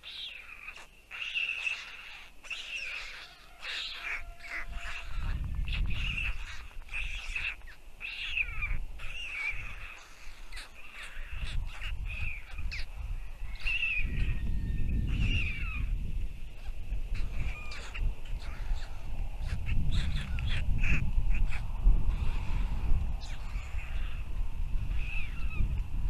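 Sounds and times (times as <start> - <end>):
harsh bird calls: 0.0 - 25.8.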